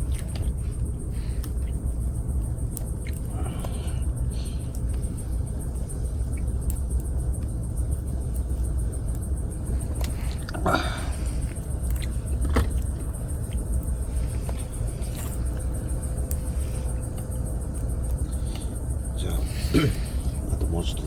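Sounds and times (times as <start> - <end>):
campfire crackling and popping: 1.2 - 21.0.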